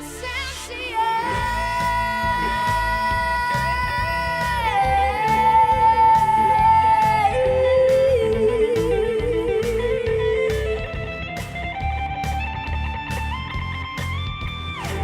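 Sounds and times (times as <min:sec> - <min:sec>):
bass and drums beat: 0:00.9 - 0:15.0
electric guitar lead with bends: 0:01.2 - 0:15.0.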